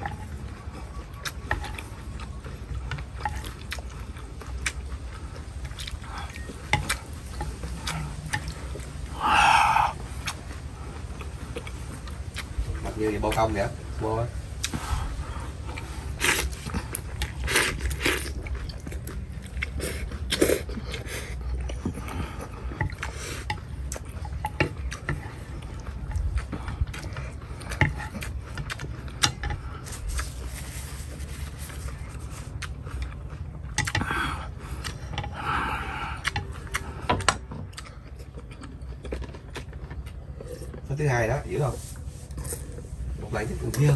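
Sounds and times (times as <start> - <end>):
man chewing and slurping: 0.0 - 43.9.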